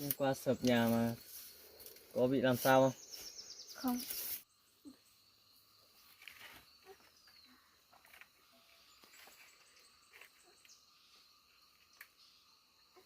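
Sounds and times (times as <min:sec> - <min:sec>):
faint bird chirp: 0:00.0 - 0:13.0.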